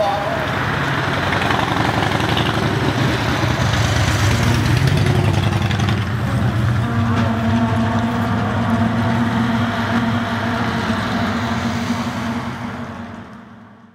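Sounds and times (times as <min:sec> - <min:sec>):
road traffic rumble: 0:00.0 - 0:13.9.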